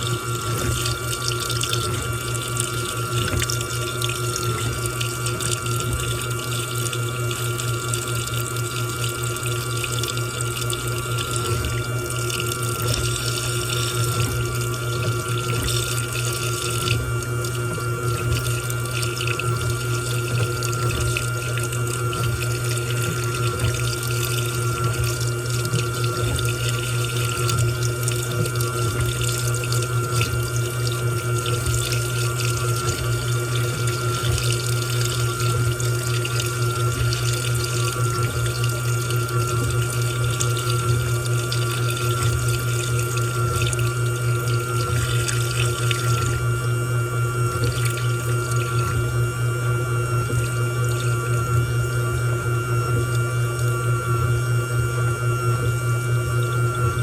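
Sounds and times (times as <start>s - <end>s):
steady low hum: 0.0s - 57.0s
water running into washing machine: 0.0s - 57.0s.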